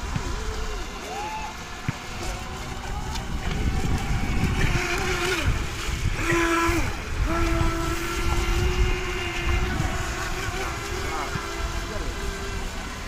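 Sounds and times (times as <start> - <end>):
electric boat motors whining: 0.0 - 13.0
wind rumble on microphone: 0.0 - 13.0.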